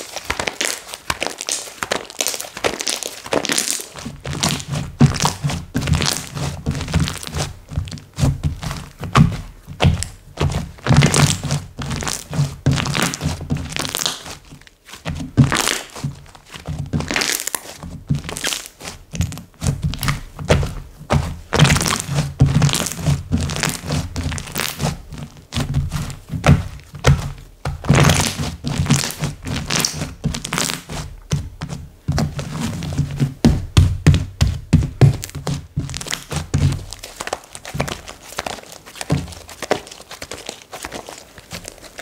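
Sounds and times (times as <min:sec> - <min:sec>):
slime squeezed by hand: 0:00.0 - 0:20.8, 0:21.4 - 0:31.2, 0:34.3 - 0:42.0.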